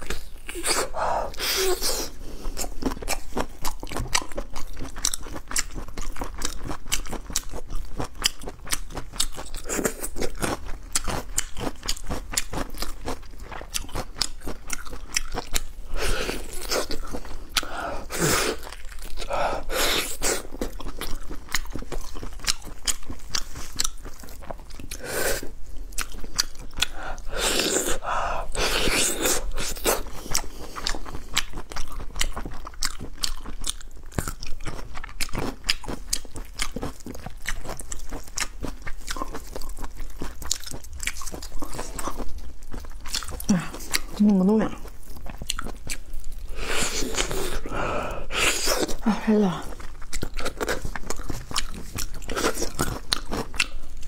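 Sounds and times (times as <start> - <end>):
wet chewing and biting: 0.0 - 49.1, 49.7 - 54.0.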